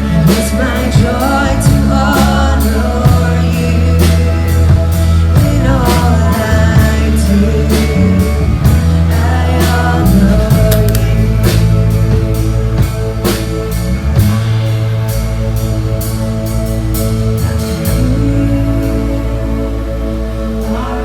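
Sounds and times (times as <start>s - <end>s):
drum kit steady beat: 0.0s - 18.8s
held bass notes: 0.0s - 21.0s
worship singing: 0.0s - 21.0s.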